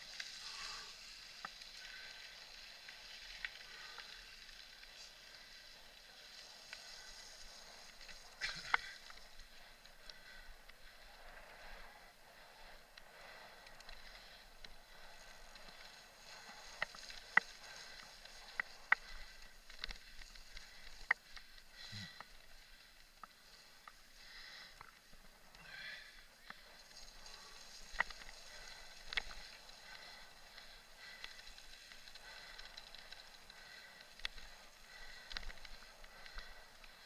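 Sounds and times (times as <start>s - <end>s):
mountain bike tyres hissing: 0.0s - 37.0s.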